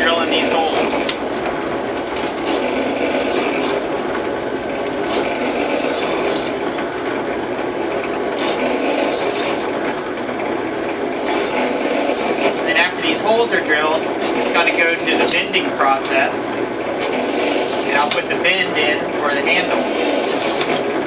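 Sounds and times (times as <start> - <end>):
drill press cutting sheet metal: 0.0 - 21.0.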